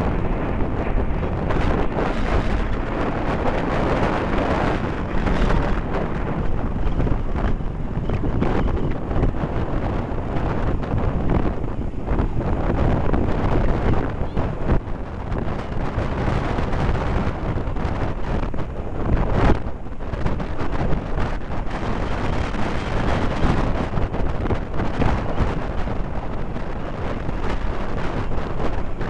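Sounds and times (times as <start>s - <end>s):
jet aircraft roaring: 0.0s - 29.0s
wind buffeting microphone: 0.0s - 29.0s.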